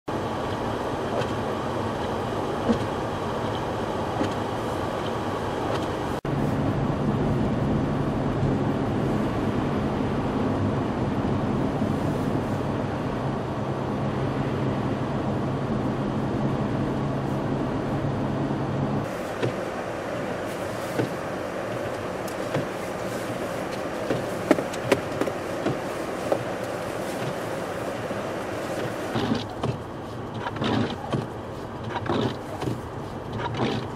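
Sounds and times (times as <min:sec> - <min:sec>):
vehicle engine humming: 0:00.1 - 0:33.9.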